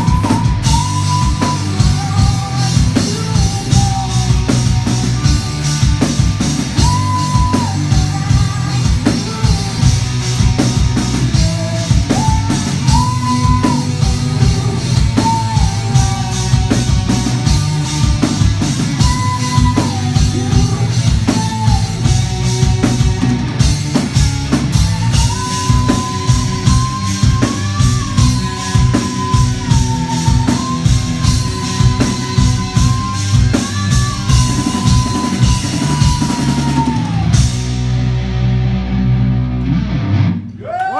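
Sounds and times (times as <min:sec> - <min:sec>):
drum kit beat: 0:00.0 - 0:38.4
bass and guitar: 0:00.0 - 0:40.9.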